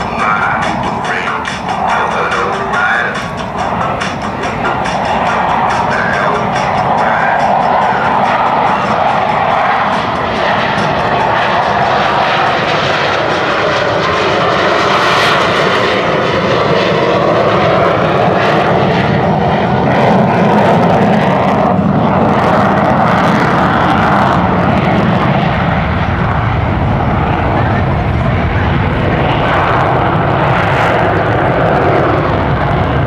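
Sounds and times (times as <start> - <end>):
jet engine roar: 0.0 - 33.0.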